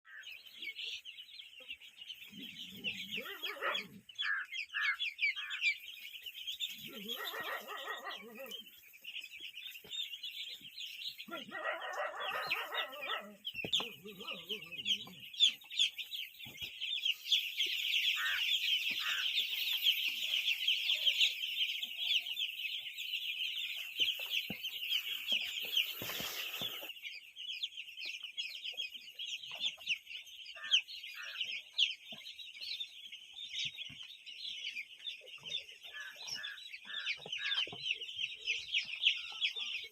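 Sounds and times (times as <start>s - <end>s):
chicks peeping: 0.1s - 39.9s.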